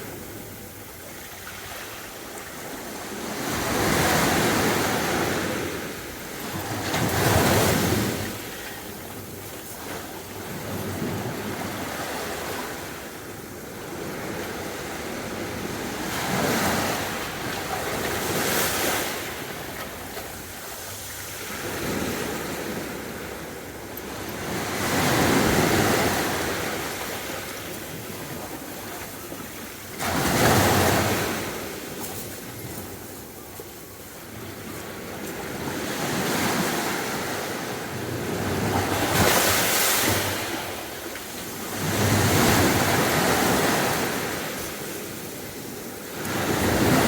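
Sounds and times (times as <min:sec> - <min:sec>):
sea waves breaking on beach: 0:00.0 - 0:47.0.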